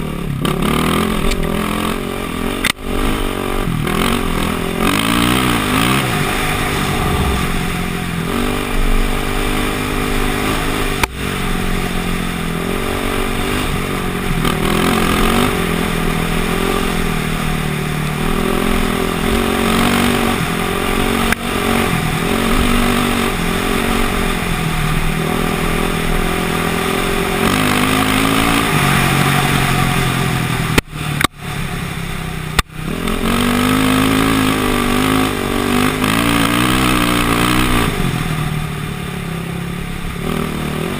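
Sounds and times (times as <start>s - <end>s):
motocross bike engine revving: 0.0s - 30.8s, 32.8s - 38.3s, 40.2s - 40.9s.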